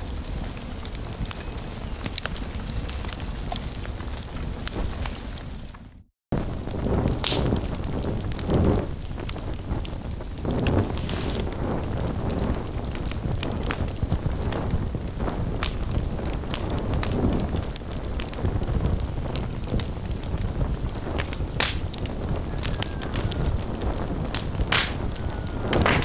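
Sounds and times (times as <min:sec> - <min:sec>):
fire burning: 0:00.0 - 0:26.0
fire crackles and pops: 0:00.0 - 0:26.0.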